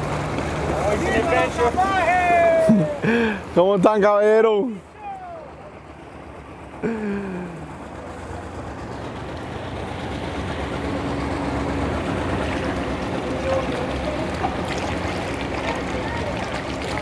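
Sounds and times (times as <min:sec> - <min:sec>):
outboard motor running: 0:00.0 - 0:17.0
wake water: 0:00.0 - 0:17.0.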